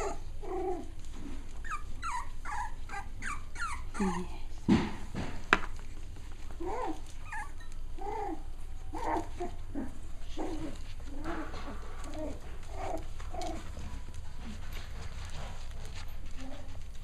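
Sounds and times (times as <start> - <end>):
puppies yipping and whining: 0.0 - 4.2, 6.6 - 17.0.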